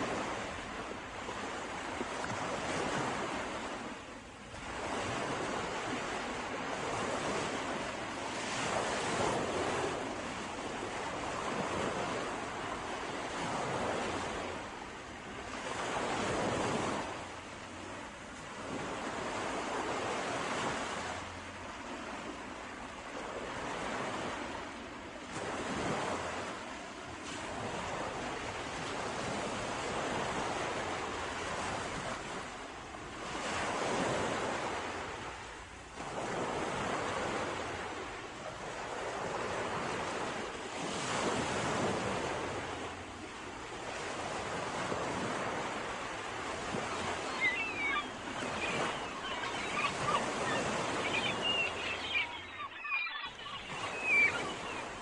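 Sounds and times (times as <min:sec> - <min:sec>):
sea waves washing ashore: 0:00.0 - 0:55.0.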